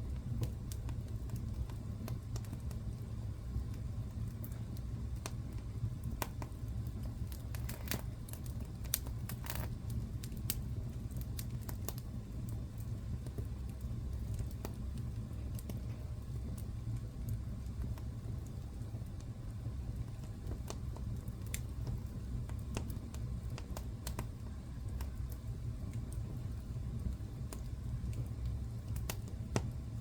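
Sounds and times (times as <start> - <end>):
fire crackling in fireplace: 0.0 - 30.0.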